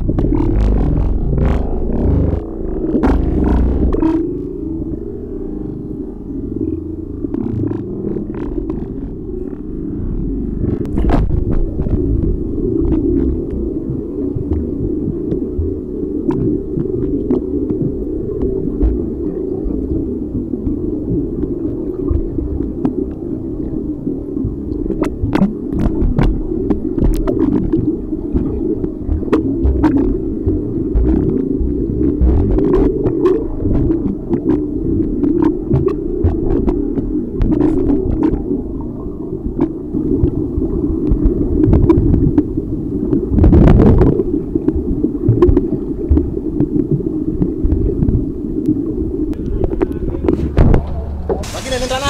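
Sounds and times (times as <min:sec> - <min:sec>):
underwater rumble: 0:00.0 - 0:52.0.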